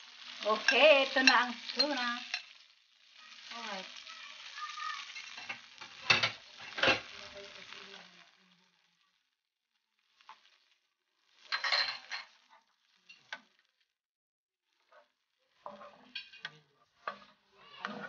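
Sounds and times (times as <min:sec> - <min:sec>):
tuna sizzling in a frying pan: 0:00.0 - 0:14.0, 0:14.6 - 0:18.0.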